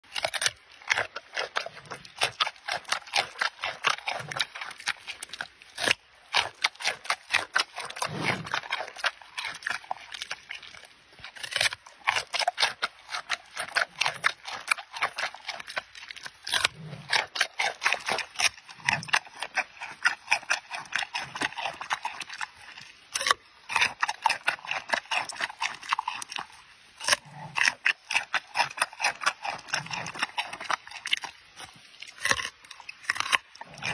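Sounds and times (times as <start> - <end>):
panda crunching a carrot: 0.1 - 33.9.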